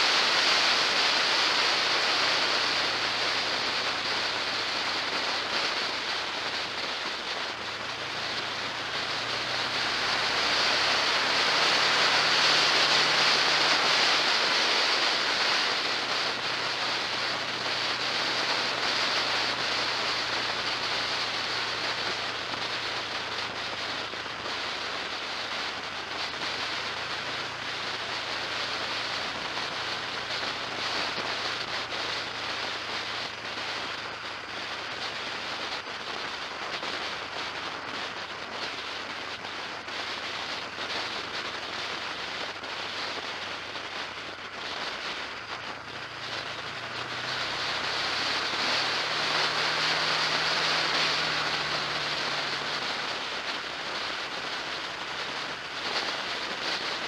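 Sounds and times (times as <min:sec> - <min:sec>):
low engine hum: 0:00.0 - 0:57.0
wind and road noise: 0:00.0 - 0:57.0.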